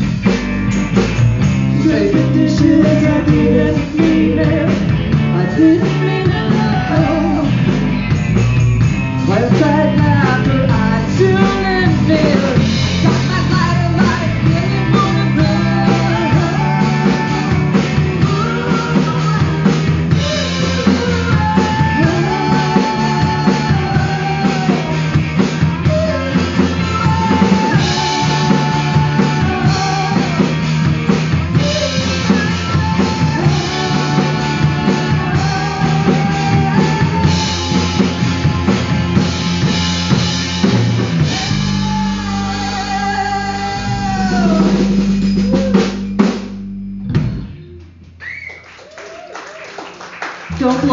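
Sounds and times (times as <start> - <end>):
drum kit beat: 0.0 - 47.5, 50.5 - 50.9
electric guitar: 0.0 - 48.2
bass guitar: 0.0 - 49.3, 50.4 - 50.9
lead vocals singing: 1.6 - 7.9, 9.2 - 46.1.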